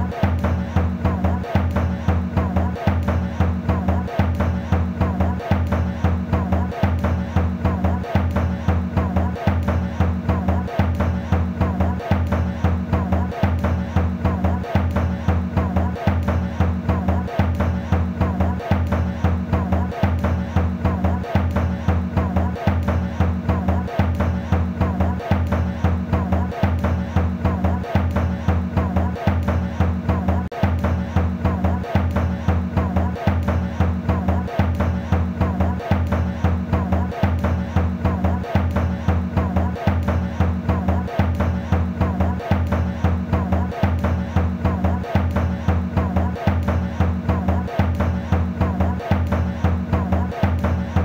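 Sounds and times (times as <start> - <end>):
music with fast drum beat: 0.0 - 51.0
repeating bass pattern: 0.0 - 51.0.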